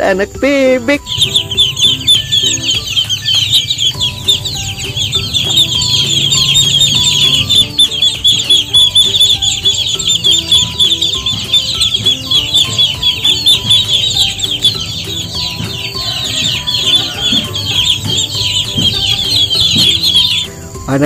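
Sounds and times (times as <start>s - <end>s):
ducklings peeping: 0.9s - 20.6s.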